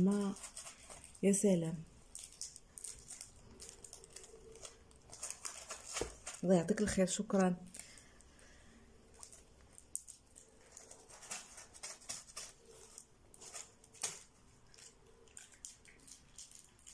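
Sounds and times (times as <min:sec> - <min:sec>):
fabric and cardboard tag rustling: 0:00.0 - 0:08.1, 0:09.1 - 0:15.4.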